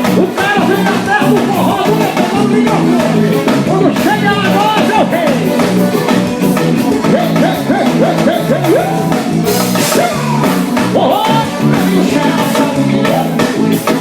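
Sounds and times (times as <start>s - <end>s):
band music: 0.0s - 14.0s
drum kit: 0.0s - 14.0s
guitar: 0.0s - 14.0s.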